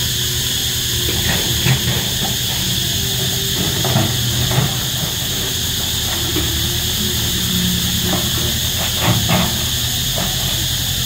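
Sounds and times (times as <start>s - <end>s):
cicadas buzzing: 0.0s - 11.0s
excavator diesel engine rumble: 0.0s - 11.0s.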